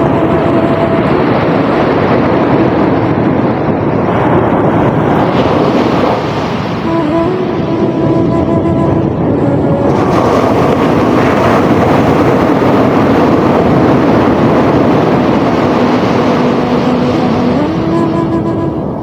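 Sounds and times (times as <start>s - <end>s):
sea surf rushing: 0.0s - 19.0s.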